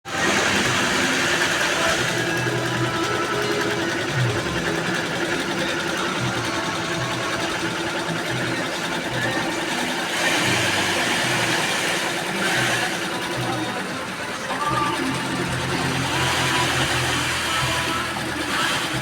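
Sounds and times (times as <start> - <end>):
embroidery machine stitching: 0.1 - 19.0.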